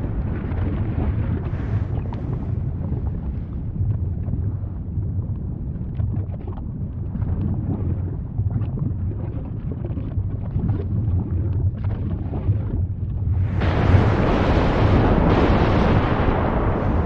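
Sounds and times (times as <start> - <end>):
volcano rumbling: 0.0 - 9.1, 10.2 - 17.0.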